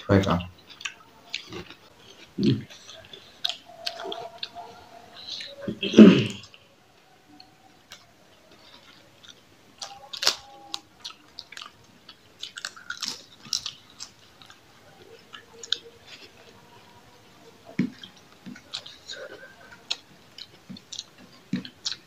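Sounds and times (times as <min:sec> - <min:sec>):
chewing and biting: 0:00.6 - 0:05.5, 0:07.8 - 0:16.9, 0:17.7 - 0:22.0.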